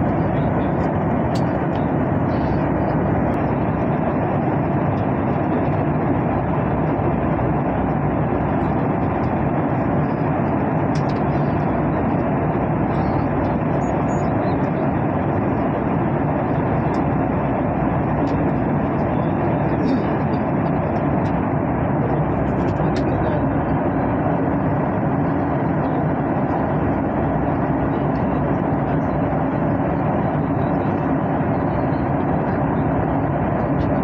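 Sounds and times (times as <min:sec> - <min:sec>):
jet engine and airflow rush: 0:00.0 - 0:34.0.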